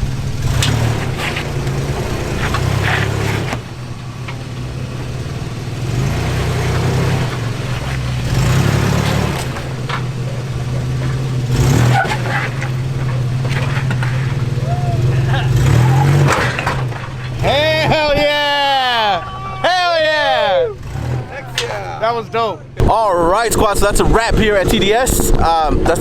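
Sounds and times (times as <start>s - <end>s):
vehicle engine running at low revs: 0.0s - 19.0s, 20.1s - 26.0s.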